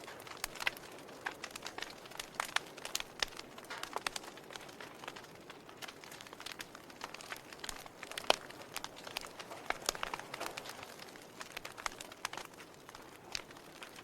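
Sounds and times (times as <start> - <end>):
log fire crackling: 0.0 - 14.0.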